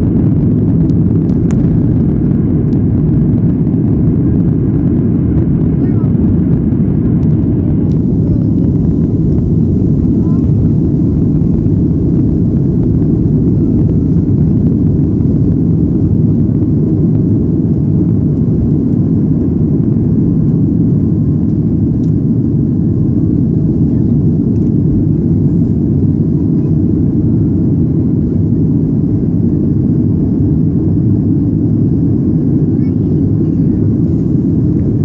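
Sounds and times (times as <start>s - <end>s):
jet engines rumbling in cabin: 0.0s - 35.0s.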